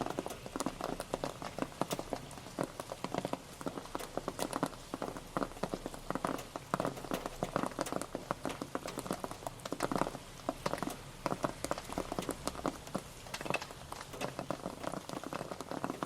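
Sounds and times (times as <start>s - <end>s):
rain pattering: 0.0s - 16.0s
steady rain hiss: 0.0s - 16.0s.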